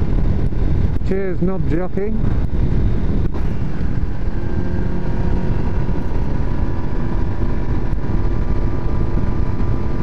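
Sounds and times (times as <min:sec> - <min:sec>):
motorcycle engine cruising: 0:00.0 - 0:10.0
wind rumble on microphone: 0:00.0 - 0:10.0.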